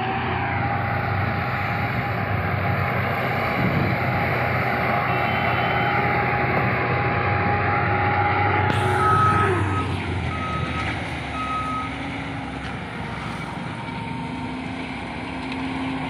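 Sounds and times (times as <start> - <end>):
harvester engine drone: 0.0 - 16.0.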